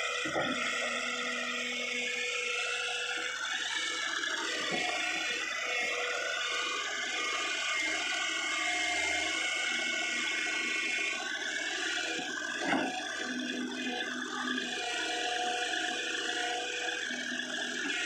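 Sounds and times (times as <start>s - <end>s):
excavator hydraulic whine: 0.0s - 18.0s.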